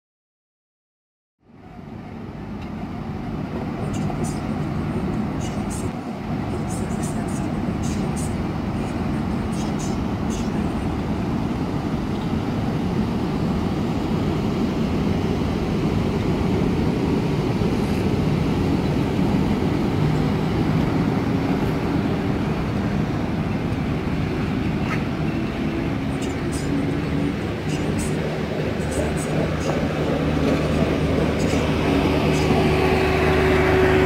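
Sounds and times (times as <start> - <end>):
faint hum: 1.6 - 34.0
train wheels rumbling on rails: 1.7 - 34.0.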